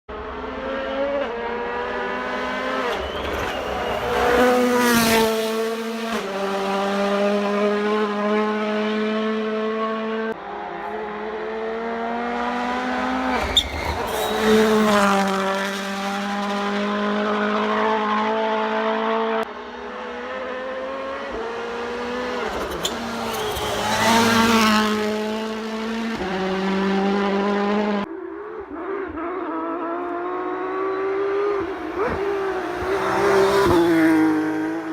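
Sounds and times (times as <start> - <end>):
rally cars passing at speed: 0.1 - 34.9.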